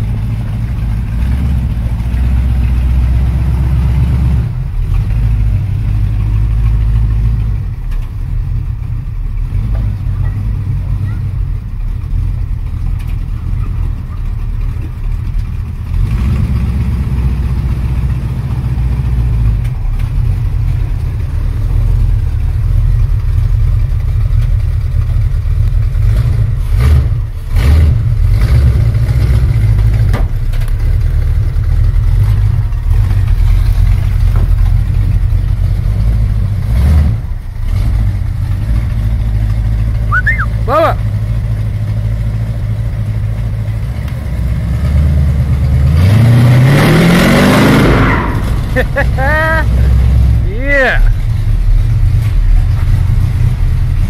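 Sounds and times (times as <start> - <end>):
truck engine rumbling: 0.0 - 54.0.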